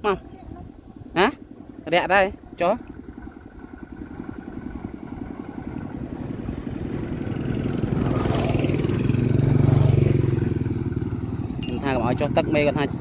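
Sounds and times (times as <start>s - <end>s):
small engine running: 1.1s - 13.0s.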